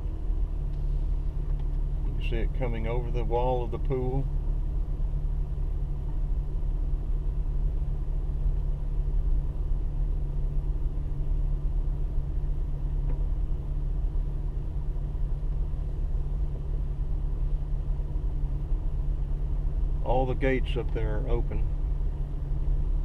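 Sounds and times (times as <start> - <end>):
car engine rumble: 0.0 - 23.0
road noise: 0.0 - 23.0.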